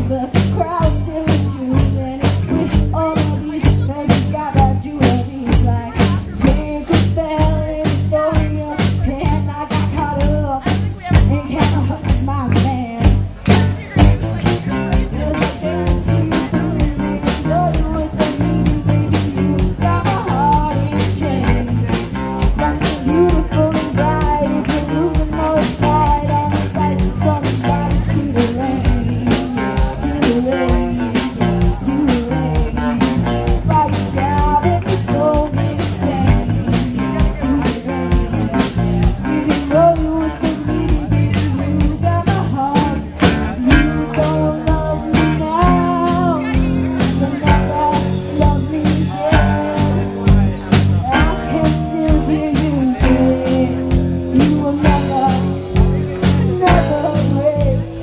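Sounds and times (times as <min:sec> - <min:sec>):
bass guitar: 0:00.0 - 0:58.0
drum kit beat: 0:00.0 - 0:58.0
electric guitar: 0:00.0 - 0:58.0
woman singing: 0:00.0 - 0:58.0.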